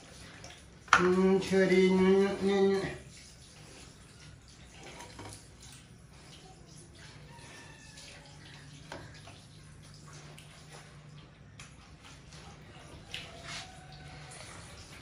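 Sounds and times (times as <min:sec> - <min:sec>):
water splashes and drips: 0:00.0 - 0:15.0.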